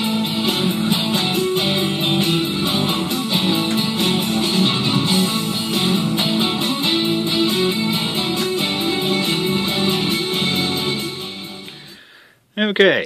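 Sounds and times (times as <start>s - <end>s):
guitar music with strummed chords: 0.0s - 12.0s.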